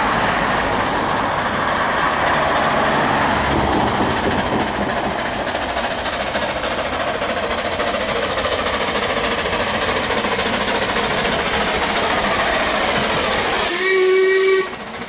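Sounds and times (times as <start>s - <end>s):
rush of steam: 0.0s - 15.0s
steam locomotive exhaust beating: 0.0s - 15.0s.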